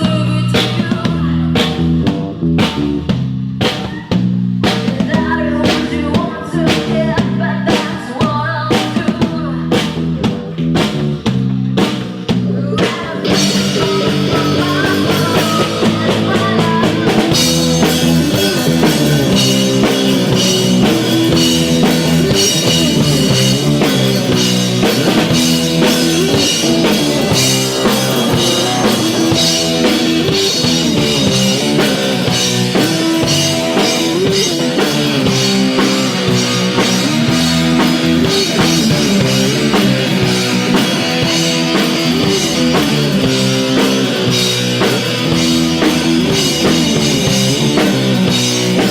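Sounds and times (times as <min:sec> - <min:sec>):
rock band instrumental: 0:00.0 - 0:48.9.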